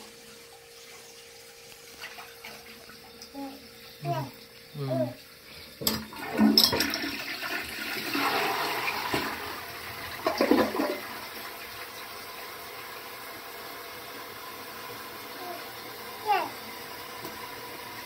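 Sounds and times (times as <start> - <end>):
toilet flushing: 0.0 - 18.0.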